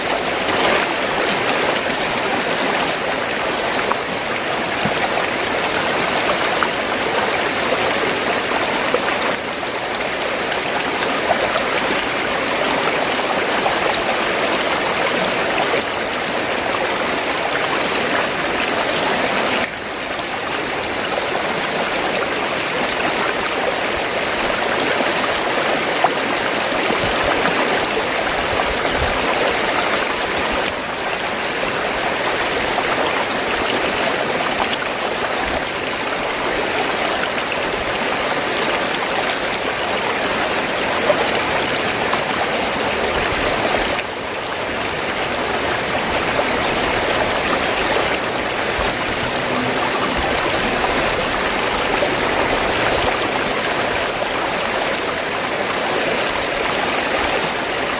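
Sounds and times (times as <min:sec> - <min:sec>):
stream water gurgling: 0:00.0 - 0:57.9.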